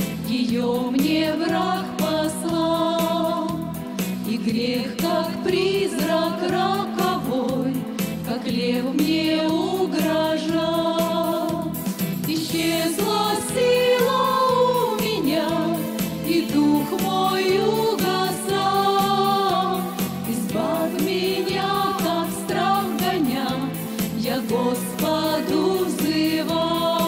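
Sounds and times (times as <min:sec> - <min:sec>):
female ensemble singing in harmony: 0:00.0 - 0:27.0.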